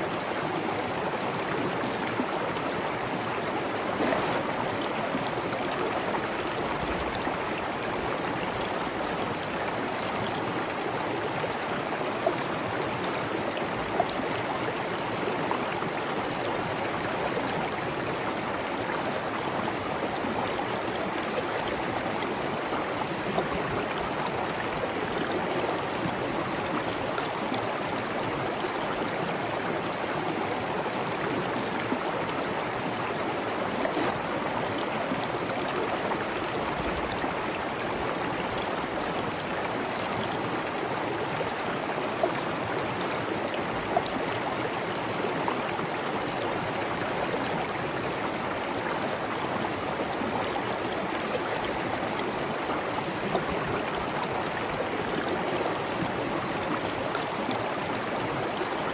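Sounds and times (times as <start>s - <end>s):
stream water babbling: 0.0s - 58.9s.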